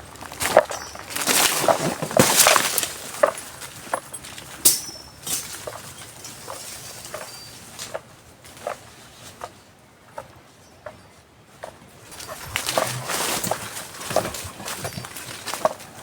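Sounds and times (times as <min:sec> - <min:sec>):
dry brush crunching and snapping: 0:00.0 - 0:10.2, 0:11.6 - 0:16.0.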